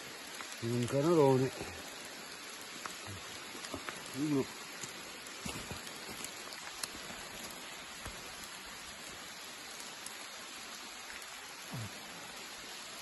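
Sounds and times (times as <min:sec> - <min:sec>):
rain falling on dry leaves: 0:00.0 - 0:13.0.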